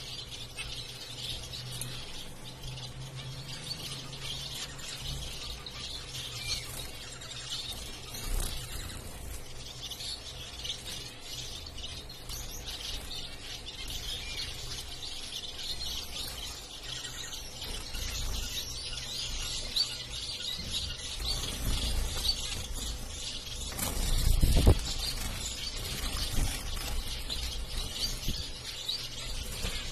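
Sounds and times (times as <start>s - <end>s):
finches chirping: 0.0s - 29.9s.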